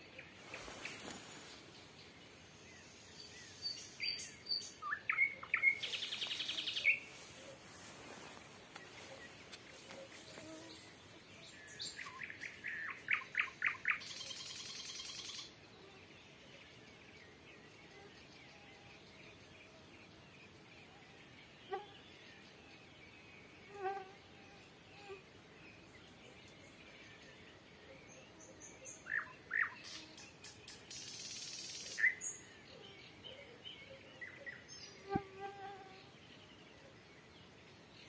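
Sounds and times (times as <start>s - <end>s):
faint evening background: 0.0s - 38.0s
nightingale song: 0.0s - 38.0s.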